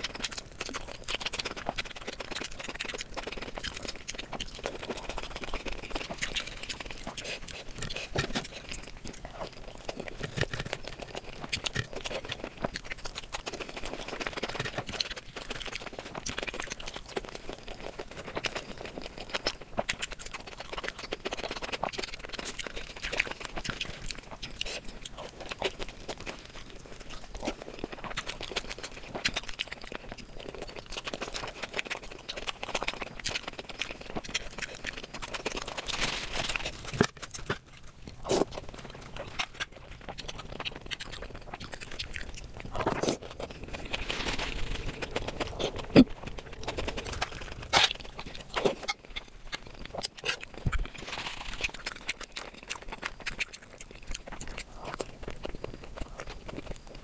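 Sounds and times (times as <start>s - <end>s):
chewing: 0.0s - 57.0s
small clicks and crackles: 0.0s - 57.0s
wet mouth noises: 0.0s - 57.0s.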